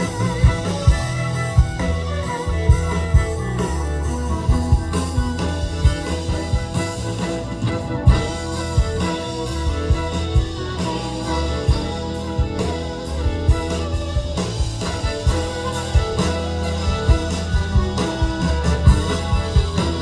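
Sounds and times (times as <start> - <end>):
drum kit steady beat: 0.0 - 20.0
sustained guitar chords: 0.0 - 20.0.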